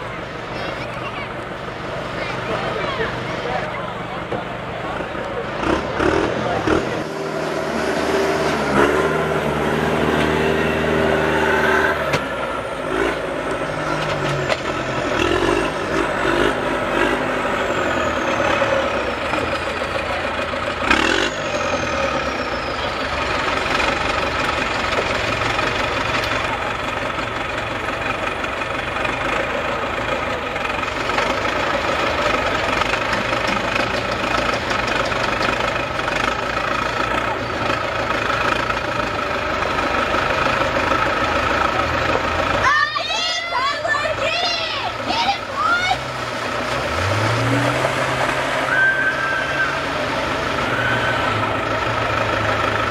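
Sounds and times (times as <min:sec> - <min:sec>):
heavy engines idling: 0:00.0 - 0:52.9.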